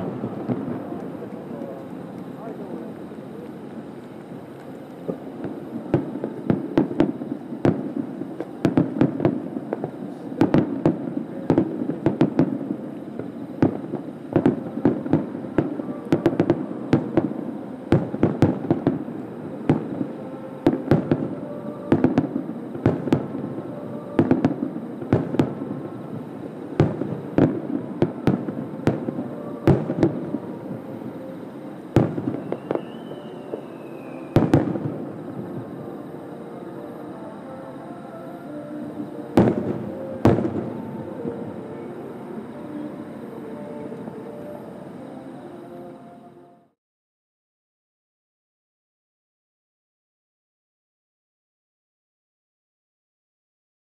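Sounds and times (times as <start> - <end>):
continuous rumble: 0.0 - 46.6
firework whistle: 0.0 - 46.7.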